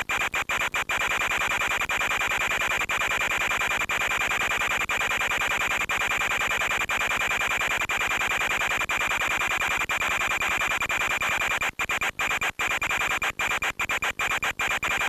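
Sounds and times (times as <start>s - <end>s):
electronic static hiss: 0.0s - 15.0s.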